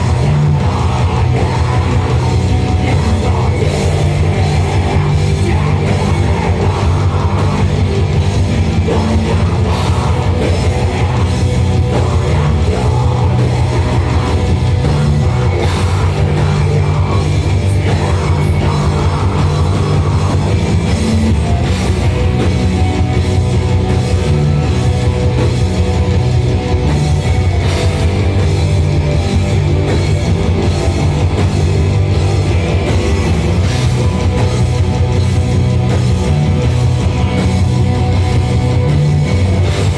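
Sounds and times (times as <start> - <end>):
drum kit fast beat: 0.0 - 39.9
live metal band playing: 0.0 - 39.9.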